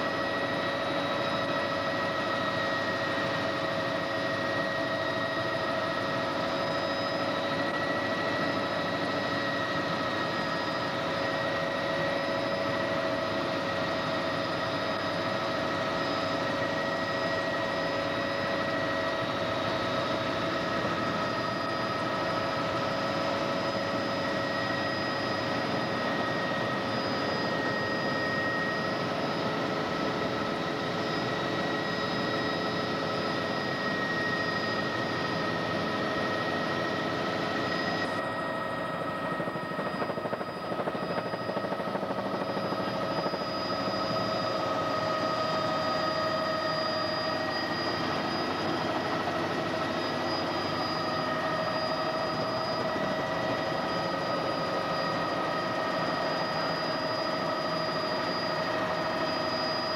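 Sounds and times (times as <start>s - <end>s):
helicopter engine and rotor whine: 0.0s - 59.9s.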